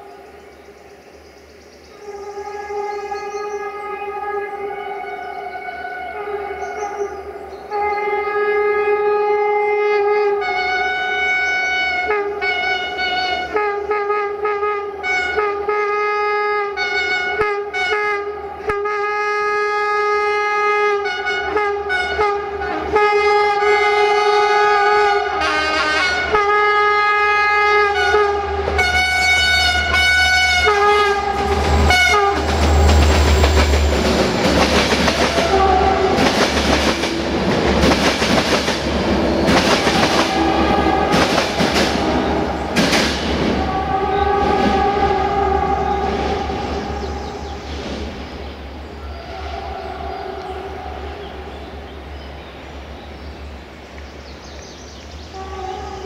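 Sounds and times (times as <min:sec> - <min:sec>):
locomotive air horn toots and blasts: 0:02.0 - 0:48.2, 0:49.0 - 0:52.0, 0:55.3 - 0:56.0
locomotive engine and wheels rumbling: 0:10.3 - 0:56.0.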